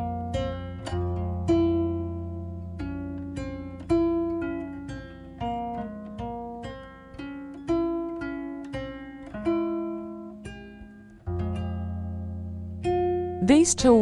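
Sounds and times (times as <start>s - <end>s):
plucked acoustic guitar: 0.0s - 14.0s.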